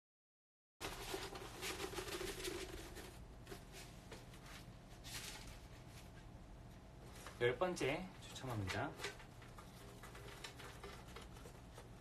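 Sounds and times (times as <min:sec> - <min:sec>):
paper poster rustling and crinkling: 0:00.8 - 0:06.3, 0:07.0 - 0:12.0.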